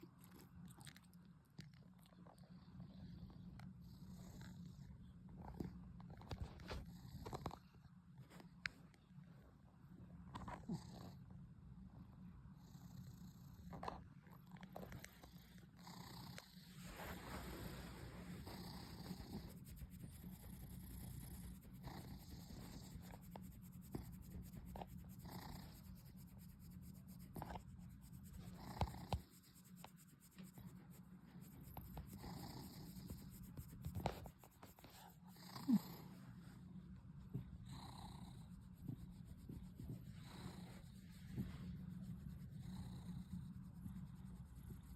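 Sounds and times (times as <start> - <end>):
cat purring: 2.1 - 7.8, 12.6 - 36.6, 37.2 - 44.9.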